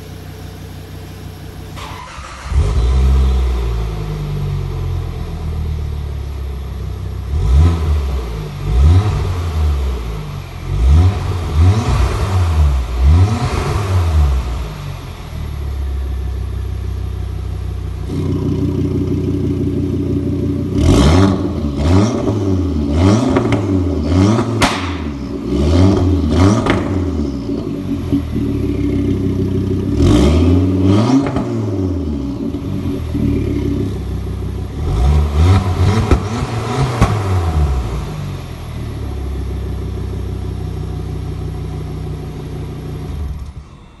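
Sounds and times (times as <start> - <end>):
car engine revving: 0.0 - 44.0
exhaust crack: 6.3 - 43.8.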